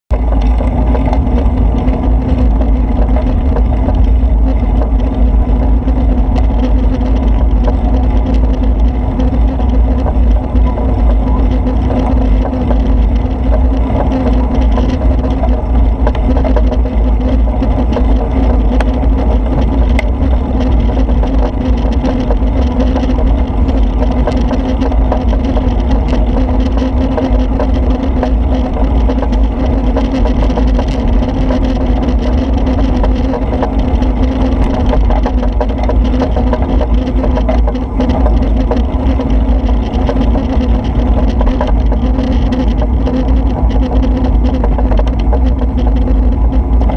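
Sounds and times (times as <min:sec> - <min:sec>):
vehicle driving in rain: 0:00.1 - 0:46.9.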